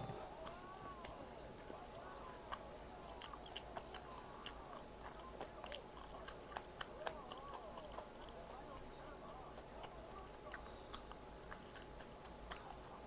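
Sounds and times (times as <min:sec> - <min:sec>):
person chewing crunchy food: 0:00.0 - 0:08.7, 0:09.5 - 0:13.0.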